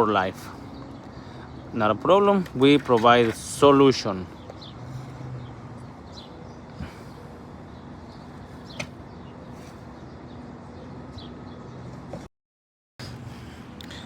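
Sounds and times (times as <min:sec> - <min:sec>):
outdoor background noise: 0:00.0 - 0:12.3, 0:13.0 - 0:14.0.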